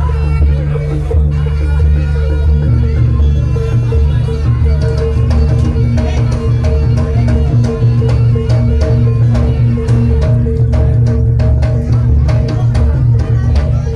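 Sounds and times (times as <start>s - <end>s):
drum beat: 0.0s - 13.9s
sharp percussion strikes: 0.0s - 13.9s.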